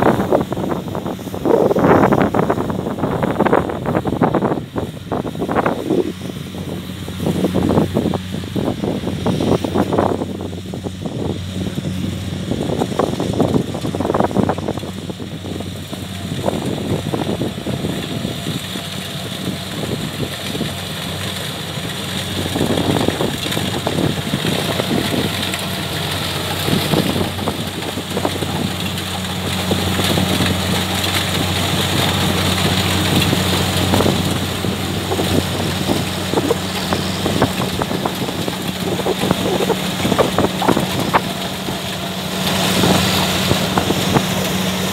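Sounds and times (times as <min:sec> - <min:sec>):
combine harvester diesel engine running: 0:00.0 - 0:44.9
noisy gusts: 0:00.0 - 0:44.9.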